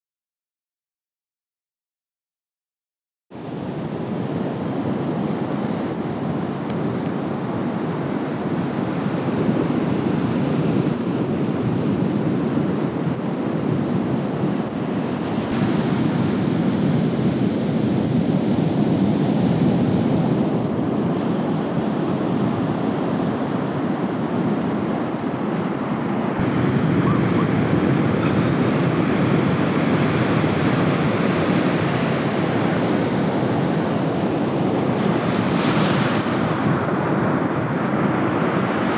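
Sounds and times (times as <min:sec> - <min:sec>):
waves breaking on shore: 0:03.4 - 0:38.9.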